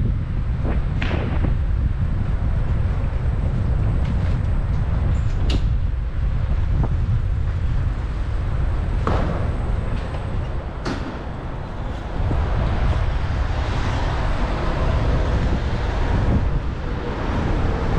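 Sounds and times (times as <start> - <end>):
wind on microphone: 0.0 - 17.9
scooter road noise: 0.2 - 17.9.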